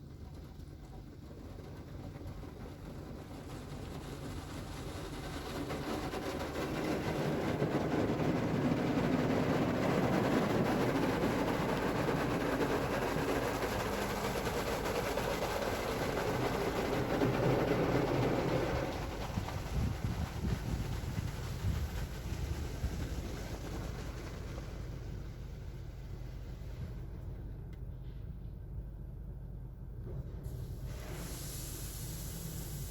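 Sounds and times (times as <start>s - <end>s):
car wash machine rushing: 1.0s - 27.1s, 30.5s - 32.9s.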